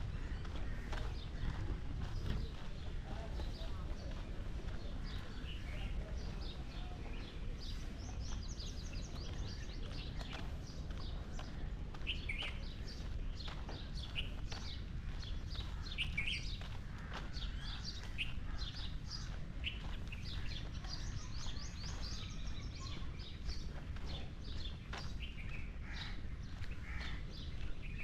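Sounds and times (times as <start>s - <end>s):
many birds chirping: 0.0s - 28.0s.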